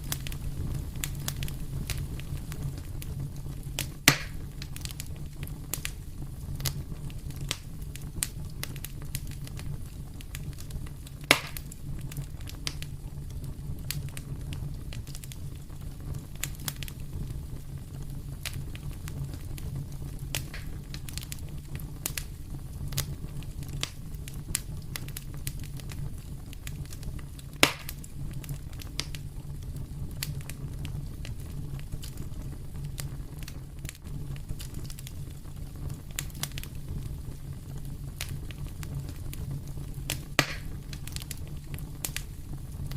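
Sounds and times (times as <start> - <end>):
sharp fire pops: 0.0 - 42.9
wood fire crackling: 0.0 - 42.9.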